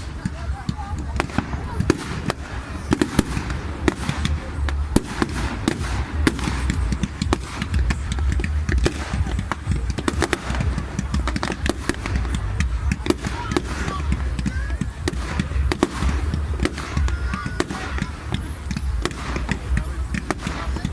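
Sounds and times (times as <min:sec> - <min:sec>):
fireworks bangs and crackles: 0:00.0 - 0:20.9.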